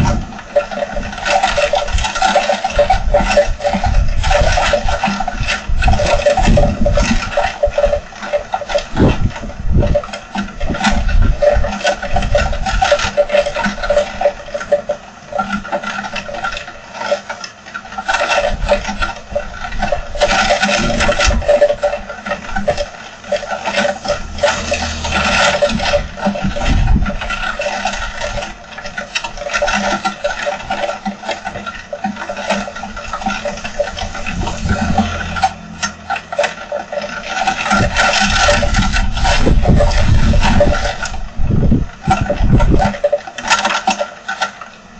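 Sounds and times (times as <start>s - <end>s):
wind rumbling on microphone: 0.0s - 14.7s, 18.1s - 43.2s.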